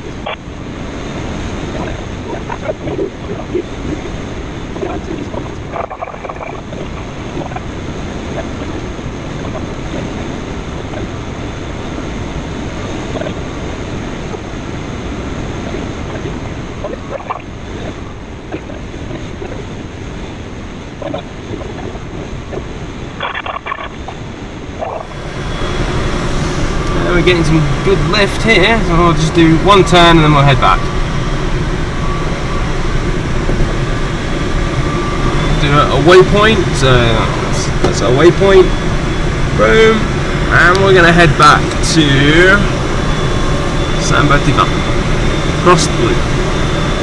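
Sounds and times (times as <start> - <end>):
air rushing around canopy: 0.0 - 47.0.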